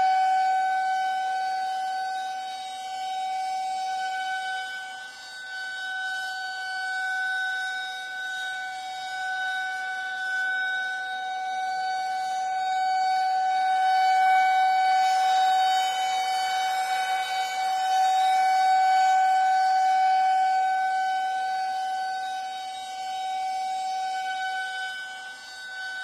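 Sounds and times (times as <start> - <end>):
air raid siren steady tone: 0.0 - 26.0.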